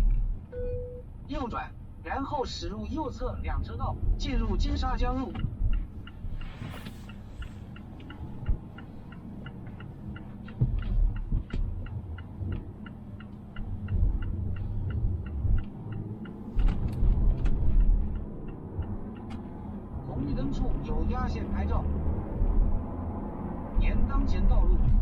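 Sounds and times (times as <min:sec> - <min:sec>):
turn signal ticking: 0:00.0 - 0:25.0
tyre and road rumble: 0:02.7 - 0:25.0.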